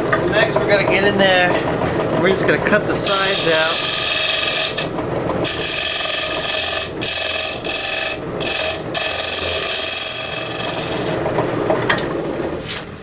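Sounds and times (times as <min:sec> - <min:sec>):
lathe tool scraping wood: 0:00.0 - 0:12.3
lathe humming: 0:00.0 - 0:12.6.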